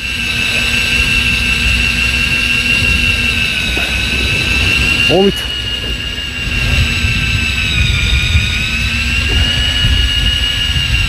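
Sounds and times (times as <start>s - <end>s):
boat engine rumbling: 0.0s - 11.0s
high-pitched engine whine: 0.0s - 11.0s
wind buffeting microphone: 0.0s - 11.0s.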